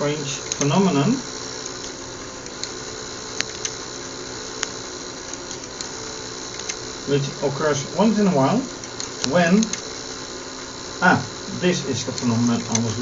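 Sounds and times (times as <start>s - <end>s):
machinery whirring hum: 0.0s - 13.0s.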